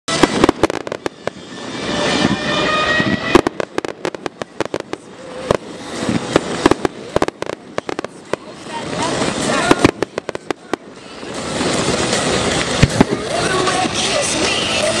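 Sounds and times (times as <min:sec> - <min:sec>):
firework bang: 0:00.1 - 0:13.8
firework hissing rush: 0:00.1 - 0:15.0
sharp crackling reports: 0:00.1 - 0:15.0.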